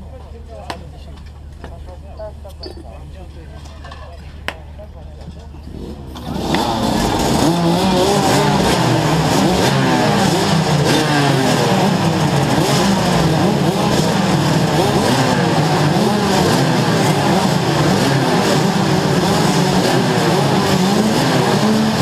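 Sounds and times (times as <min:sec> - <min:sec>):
kart engines revving: 0:03.9 - 0:22.0.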